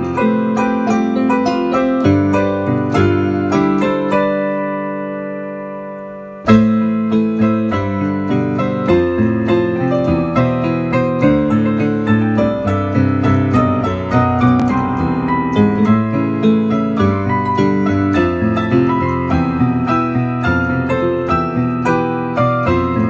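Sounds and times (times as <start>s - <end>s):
digital piano playing: 0.0s - 23.0s.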